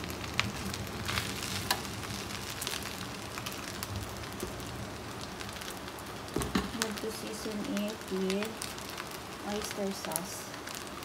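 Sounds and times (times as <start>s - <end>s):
rice sizzling in a wok: 0.0s - 11.0s.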